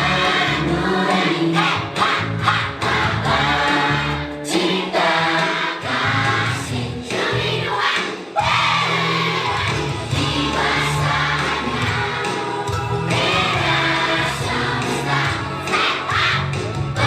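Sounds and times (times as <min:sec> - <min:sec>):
group singing in unison: 0:00.0 - 0:17.0
upbeat backing music: 0:00.0 - 0:17.0.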